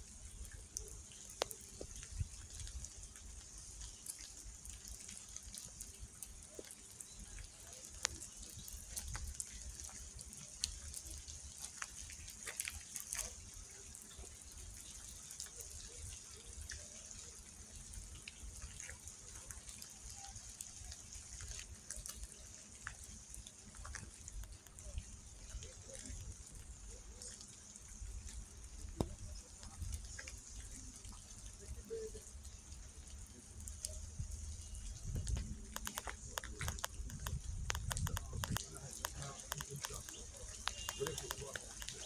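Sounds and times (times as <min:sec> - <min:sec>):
rain hissing: 0:00.0 - 0:42.0
raindrops tapping: 0:00.0 - 0:42.0.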